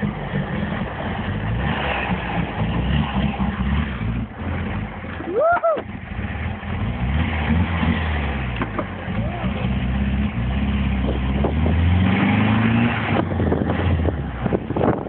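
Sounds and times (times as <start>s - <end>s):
buggy engine accelerating: 0.0s - 15.0s
road and wind noise: 0.0s - 15.0s.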